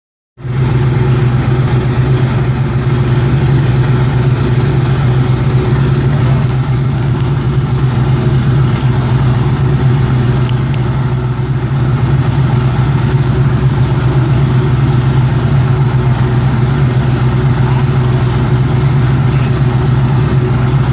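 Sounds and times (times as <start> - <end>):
race car engine on a dyno: 0.4 - 20.9.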